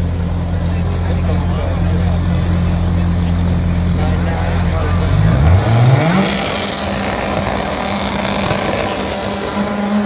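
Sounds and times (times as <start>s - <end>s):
drag car engine revving: 0.0s - 10.0s.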